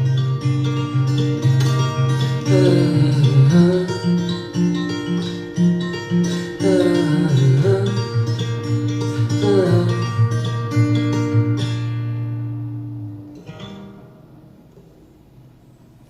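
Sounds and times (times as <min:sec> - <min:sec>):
guitar plucked notes and chord: 0:00.0 - 0:14.9.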